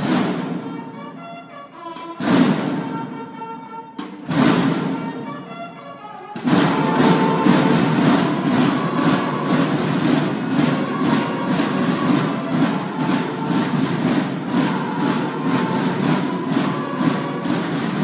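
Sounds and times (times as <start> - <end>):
bugles holding chords: 0.0 - 18.0
marching snare drums: 0.0 - 18.0.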